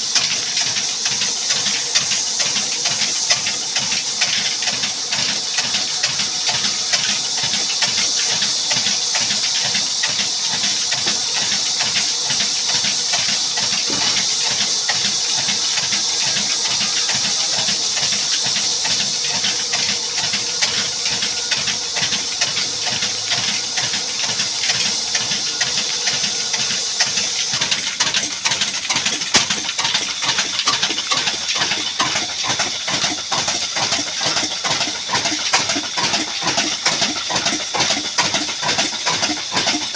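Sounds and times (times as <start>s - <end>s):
diesel engine running: 0.0s - 39.9s
engine hiss: 0.0s - 39.9s.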